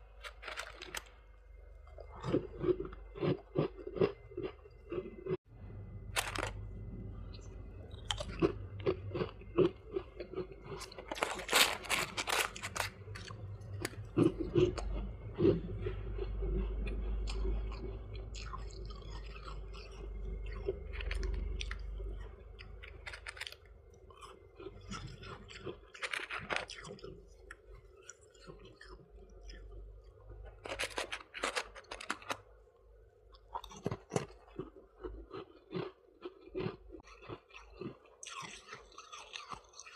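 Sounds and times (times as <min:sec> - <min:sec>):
crunching ice in the mouth: 0:00.1 - 0:01.1, 0:01.9 - 0:05.4, 0:06.2 - 0:06.6, 0:07.9 - 0:29.8, 0:30.4 - 0:32.4, 0:33.3 - 0:39.9.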